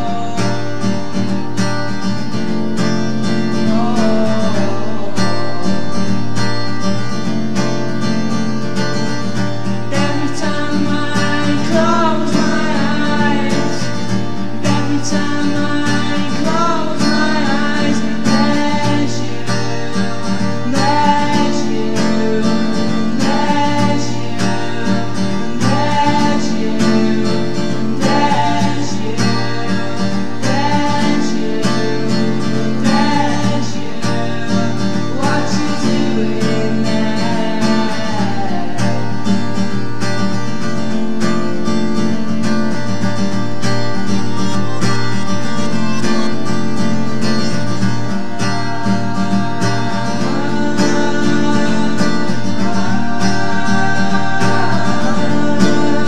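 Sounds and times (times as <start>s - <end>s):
person singing: 0.0s - 1.3s, 2.2s - 7.3s, 9.6s - 42.9s, 43.8s - 56.0s
strummed acoustic guitar: 0.0s - 56.0s.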